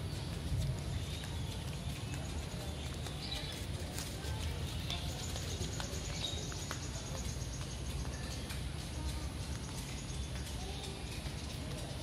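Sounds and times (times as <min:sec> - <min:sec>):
outdoor noise with low rumble: 0:00.0 - 0:12.0.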